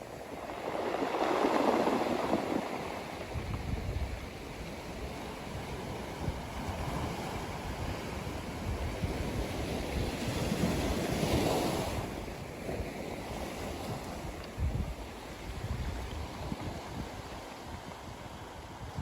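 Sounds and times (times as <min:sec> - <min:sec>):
surf breaking on beach: 0:00.0 - 0:19.0
wind on microphone: 0:00.0 - 0:19.0.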